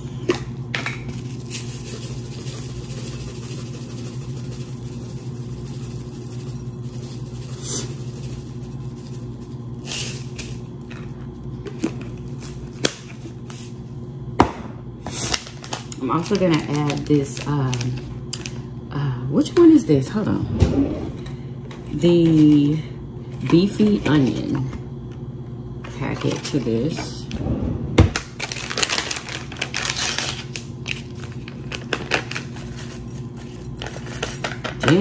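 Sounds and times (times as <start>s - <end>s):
steady low hum: 0.0s - 34.8s.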